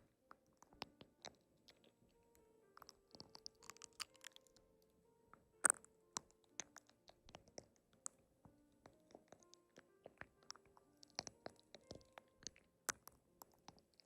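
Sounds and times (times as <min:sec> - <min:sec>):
small clicks and crackles: 0:00.0 - 0:14.0
soft background music: 0:00.0 - 0:14.0.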